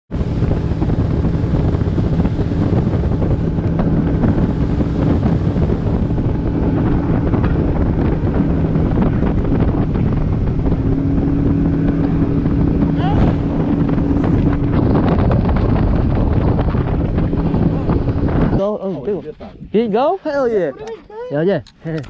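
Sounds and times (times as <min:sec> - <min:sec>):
outboard motor running: 0:00.1 - 0:22.0
wind buffeting microphone: 0:00.1 - 0:22.0.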